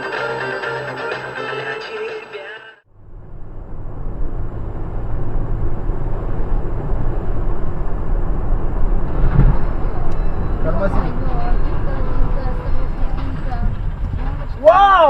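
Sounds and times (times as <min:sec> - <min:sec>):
car road and engine rumble: 0:02.8 - 0:15.0.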